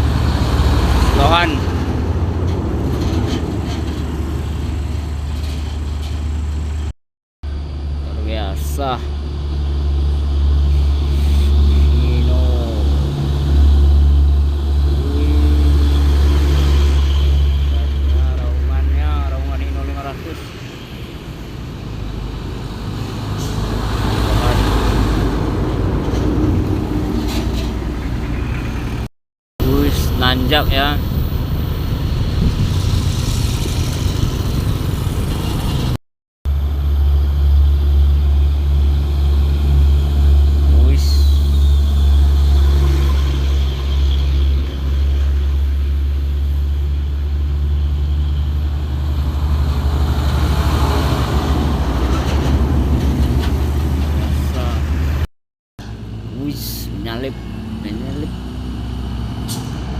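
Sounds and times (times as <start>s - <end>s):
truck diesel engine roaring: 0.0s - 59.9s.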